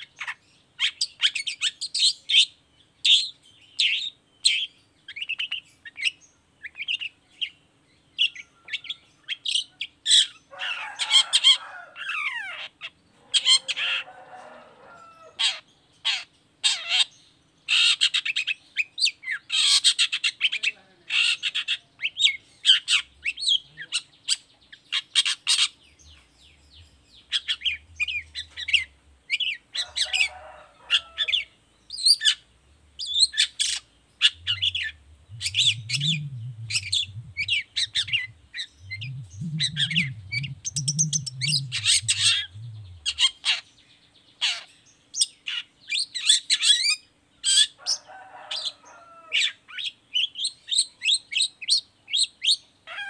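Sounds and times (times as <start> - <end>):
bird chirping: 0.0 - 52.8.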